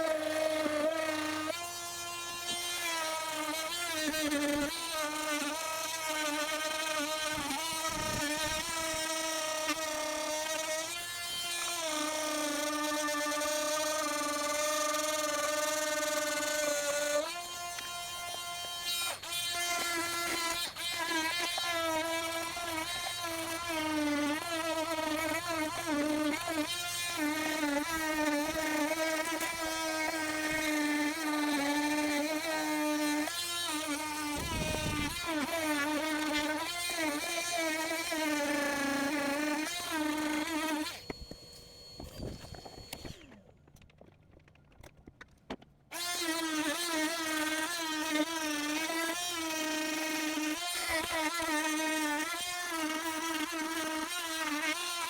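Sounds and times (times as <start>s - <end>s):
oscillating multi-tool buzzing: 0.0s - 43.4s, 45.9s - 55.0s.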